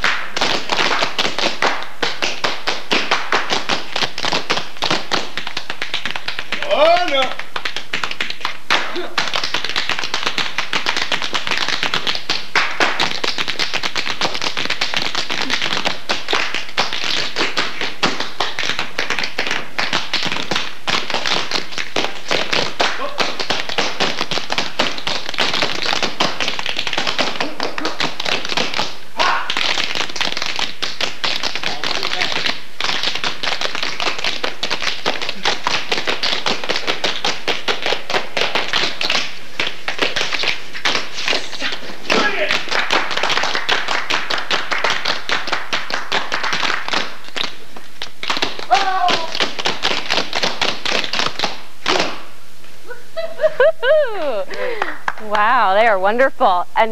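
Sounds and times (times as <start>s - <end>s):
tap shoes clicking on hard floor: 0.0s - 29.0s, 29.6s - 52.1s.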